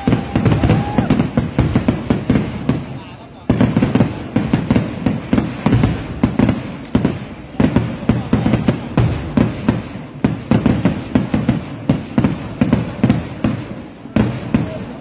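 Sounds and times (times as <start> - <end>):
firework bangs: 0.0 - 15.0.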